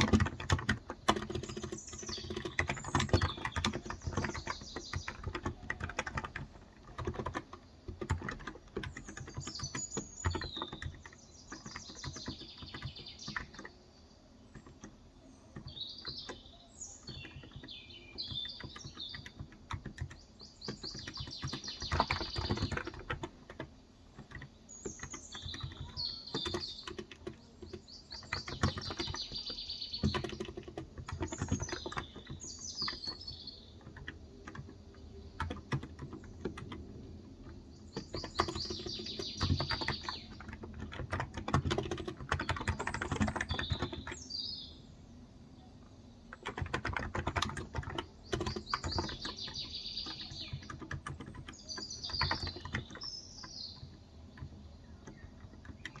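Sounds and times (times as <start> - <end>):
keyboard typing: 0.0 - 13.8, 14.4 - 44.4, 45.9 - 56.0
birds chirping: 0.0 - 56.0.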